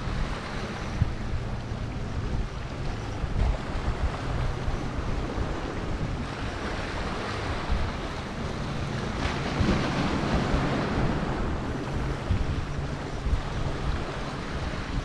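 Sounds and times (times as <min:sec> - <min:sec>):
waves breaking against rocks: 0:00.0 - 0:15.0
wind buffeting microphone: 0:00.0 - 0:15.0.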